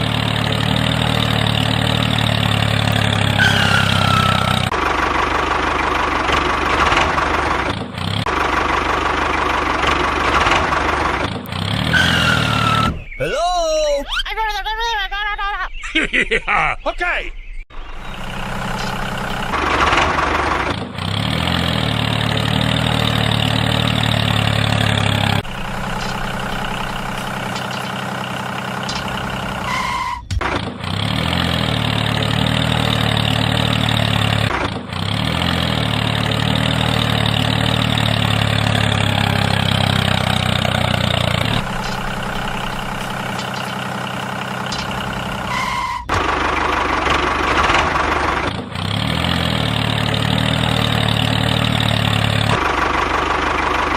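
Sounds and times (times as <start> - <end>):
small engine droning: 0.0 - 13.2, 17.7 - 53.9.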